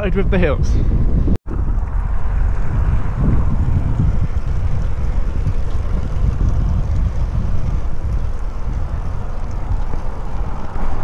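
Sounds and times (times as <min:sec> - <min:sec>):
wind buffeting microphone: 0:00.0 - 0:11.0
bicycle tyres rolling on tarmac: 0:01.0 - 0:11.0.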